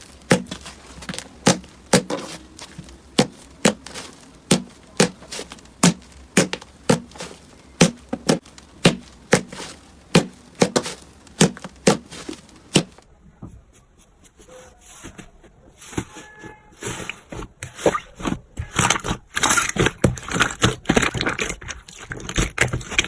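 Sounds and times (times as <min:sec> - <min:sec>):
quiet crackling: 0:00.0 - 0:23.0.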